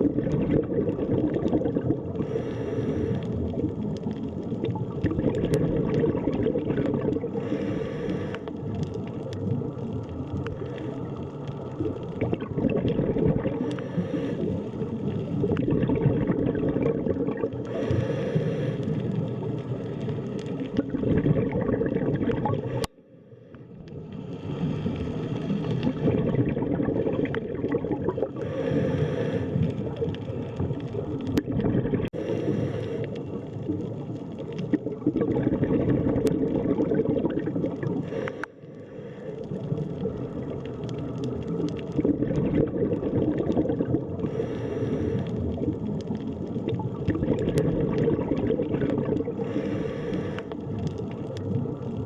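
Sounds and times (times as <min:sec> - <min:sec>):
bubbling hissy swells: 0:00.0 - 0:52.0
muffled underwater rumble: 0:00.0 - 0:52.0.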